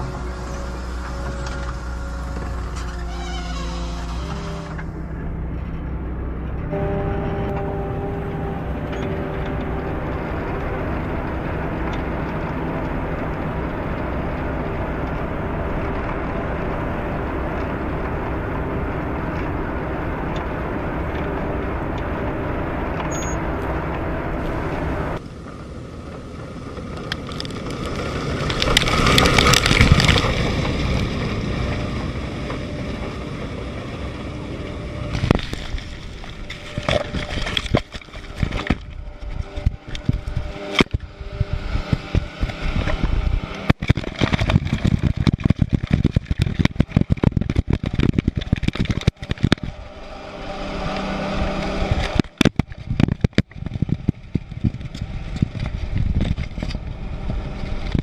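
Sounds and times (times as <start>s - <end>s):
faint engine hum: 0.0s - 58.0s
harvester machine noise: 0.0s - 58.0s.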